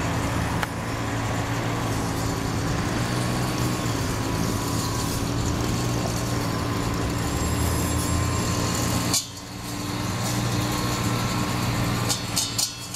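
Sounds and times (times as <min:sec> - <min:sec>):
diesel engine drone: 0:00.0 - 0:12.9.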